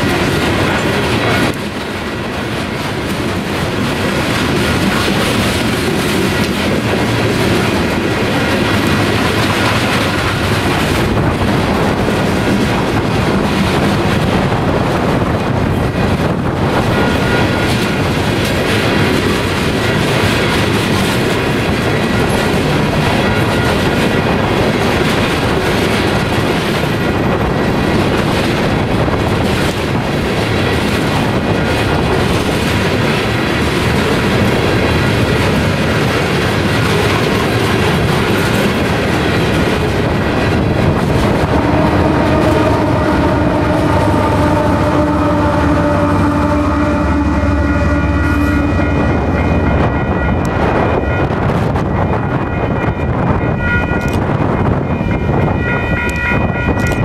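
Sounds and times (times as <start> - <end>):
wheels on rail: 0.0 - 57.0.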